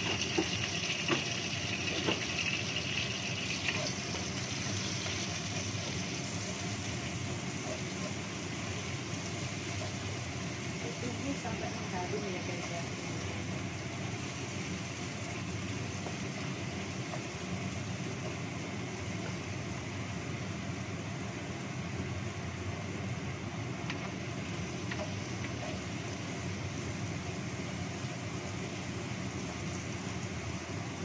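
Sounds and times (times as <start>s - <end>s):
range hood fan running: 0.0s - 31.0s.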